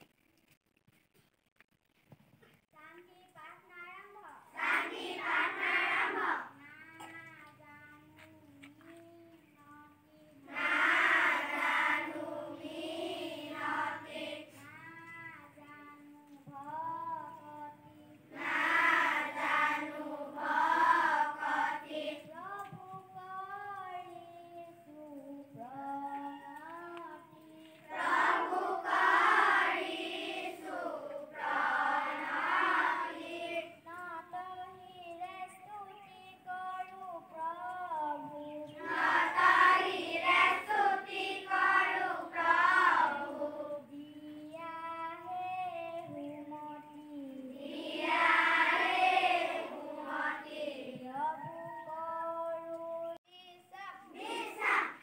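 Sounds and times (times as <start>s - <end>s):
children singing together: 4.5s - 8.2s, 9.0s - 55.0s.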